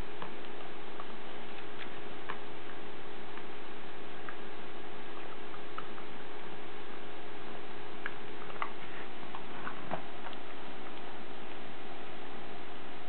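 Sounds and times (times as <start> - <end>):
dog chewing a snack: 0.0 - 12.0
steady hum: 0.0 - 13.0.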